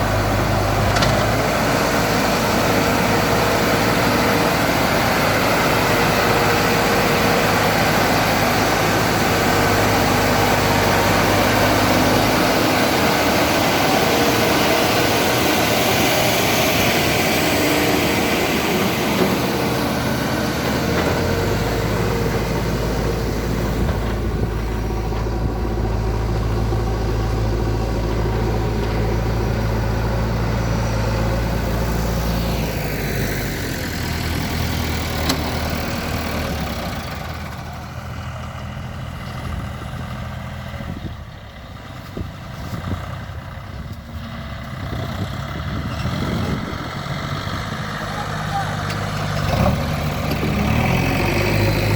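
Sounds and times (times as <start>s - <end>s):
heavy diesel engines droning: 0.0s - 51.9s.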